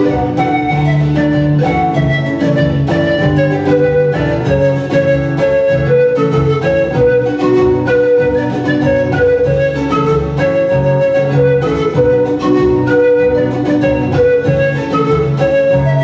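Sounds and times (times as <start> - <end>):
acoustic guitar strummed: 0.0 - 16.0
panpipes playing a melody: 0.0 - 16.0.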